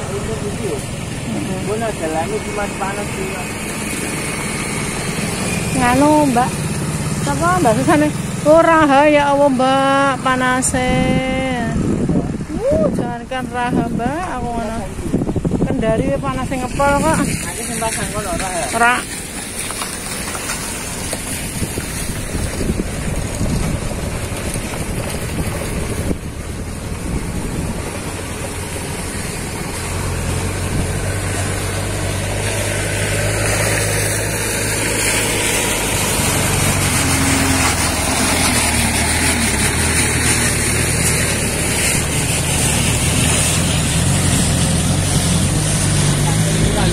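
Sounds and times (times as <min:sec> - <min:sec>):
steady rushing noise: 0:00.0 - 0:46.9
vehicle engine running: 0:00.0 - 0:46.9.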